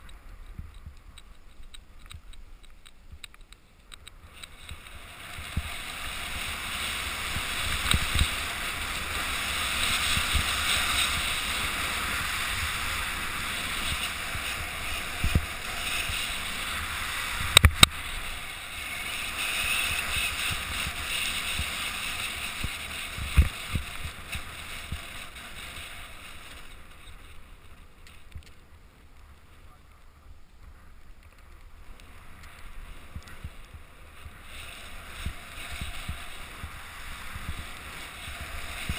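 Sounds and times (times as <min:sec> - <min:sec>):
skis sliding over snow: 0:00.0 - 0:38.9
wind on microphone: 0:04.3 - 0:27.5, 0:30.6 - 0:38.9.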